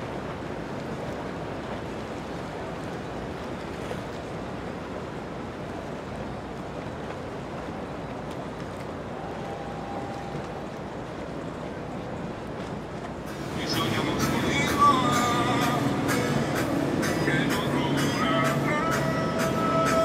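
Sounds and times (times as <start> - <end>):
boat engines running: 0.0 - 20.0
water noise: 0.0 - 20.0.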